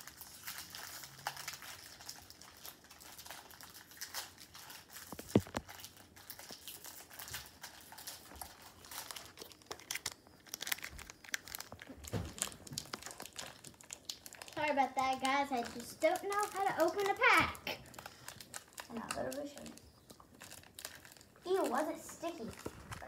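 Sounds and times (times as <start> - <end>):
foil wrapper crinkling: 0.0 - 23.0.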